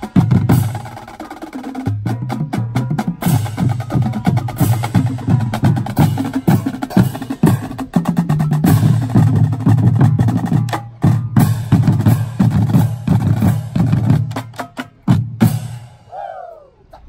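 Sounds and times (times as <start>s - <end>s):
snare drums rattling: 0.0s - 15.6s
bass drums: 0.0s - 15.8s.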